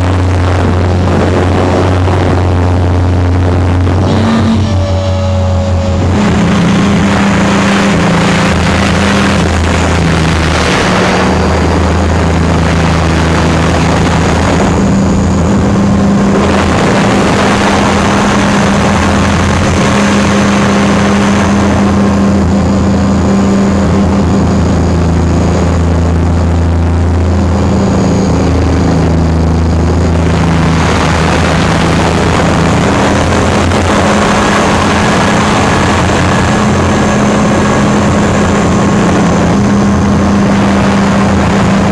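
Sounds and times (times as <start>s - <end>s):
helicopter rotor drone: 0.0s - 41.9s
wind rushing over microphone: 0.0s - 41.9s.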